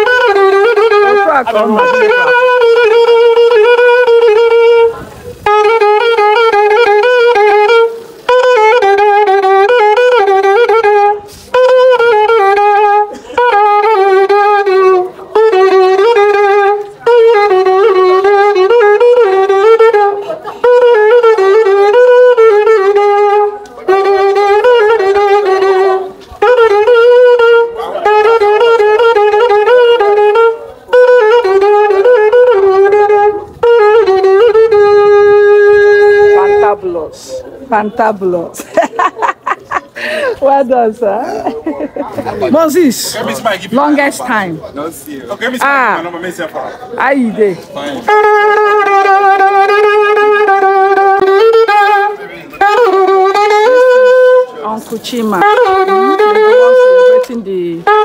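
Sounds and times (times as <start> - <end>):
wooden flute playing: 0.0 - 38.4, 47.6 - 58.0.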